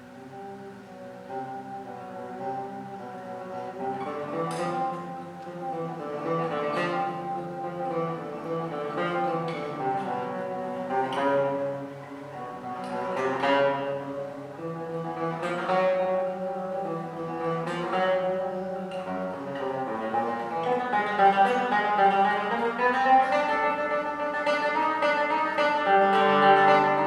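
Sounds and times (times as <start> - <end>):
solo classical guitar: 0.0 - 27.0.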